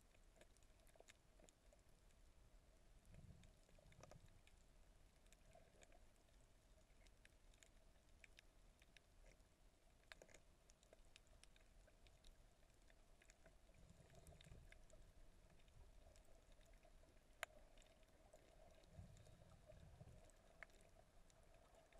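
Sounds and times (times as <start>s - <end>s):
low rumble of moving water: 0.0s - 21.9s
small underwater clicks and crackles: 0.0s - 21.9s.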